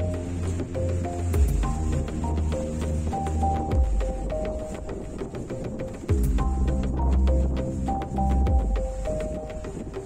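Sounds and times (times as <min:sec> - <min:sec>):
background music with bass line: 0:00.0 - 0:10.0
steady tapping beat: 0:00.0 - 0:10.0.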